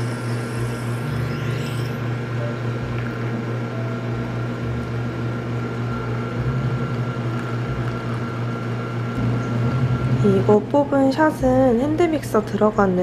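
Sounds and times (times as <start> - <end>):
espresso machine pump humming: 0.0 - 12.2.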